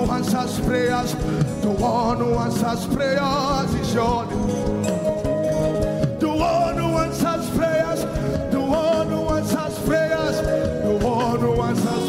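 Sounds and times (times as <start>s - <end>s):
band playing: 0.0s - 12.0s
drum kit: 0.0s - 12.0s
person singing: 0.0s - 12.0s.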